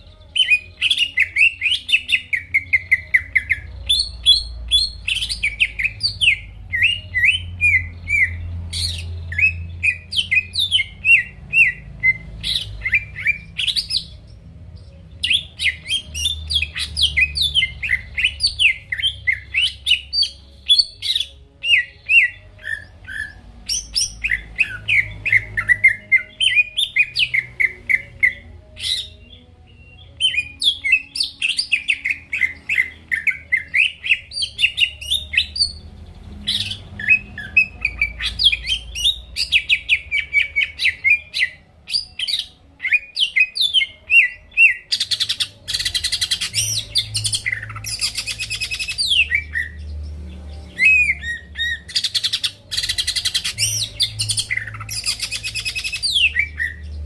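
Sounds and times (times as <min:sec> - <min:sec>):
bird singing chirps and whistles: 0:00.0 - 0:50.0, 0:50.6 - 0:57.0.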